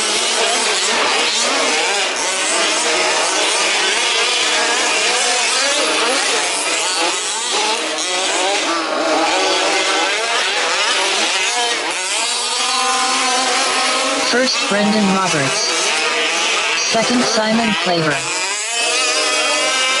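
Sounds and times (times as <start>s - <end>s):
small two-stroke engines revving: 0.0s - 20.0s.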